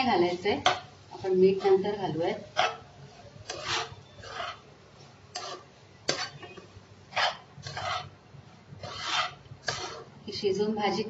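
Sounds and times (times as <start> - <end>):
spatula scraping in pan: 0.0 - 10.2.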